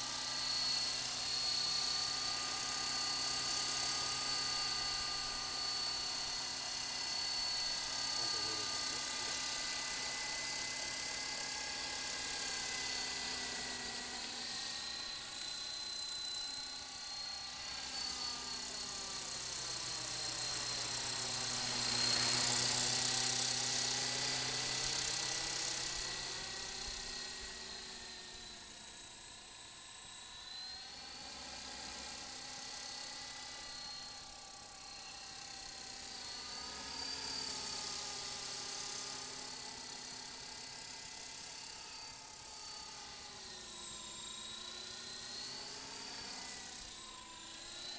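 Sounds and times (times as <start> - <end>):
toy helicopter rotor whine: 0.0 - 47.9.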